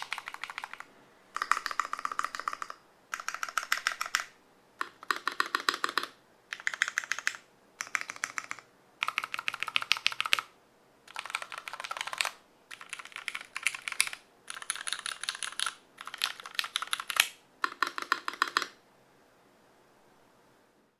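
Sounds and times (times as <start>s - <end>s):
mechanical keyboard typing: 0.0s - 10.5s, 11.1s - 18.8s.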